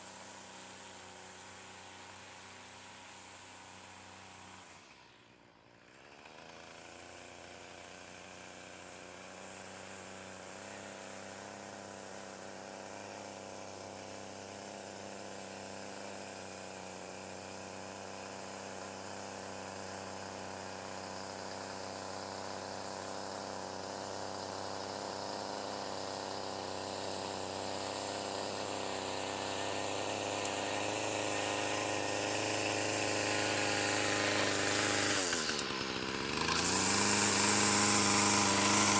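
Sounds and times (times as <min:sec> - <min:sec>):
string trimmer engine running: 0:00.0 - 0:38.9.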